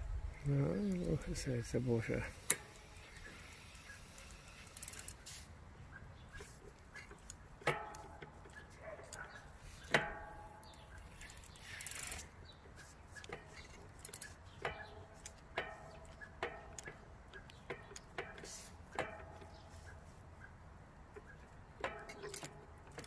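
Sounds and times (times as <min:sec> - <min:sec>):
bicycle chain metallic clicks: 0:00.6 - 0:05.5, 0:06.3 - 0:19.9, 0:21.2 - 0:23.0.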